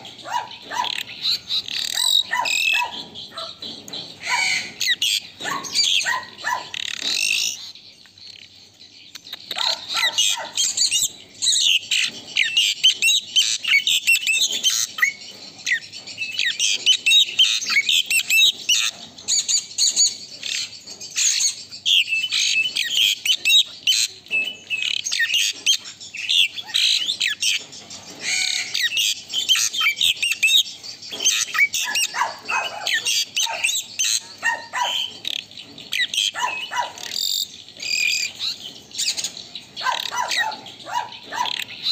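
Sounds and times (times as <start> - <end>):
starling chattering song: 0.0 - 41.9.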